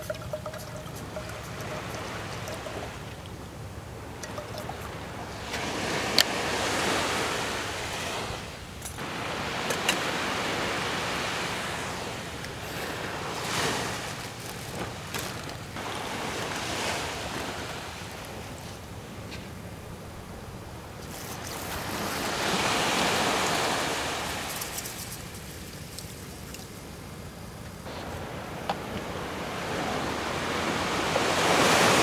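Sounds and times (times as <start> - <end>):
waves washing onto sandy beach: 0.0 - 3.2, 4.0 - 19.4, 20.1 - 27.0, 27.8 - 32.0.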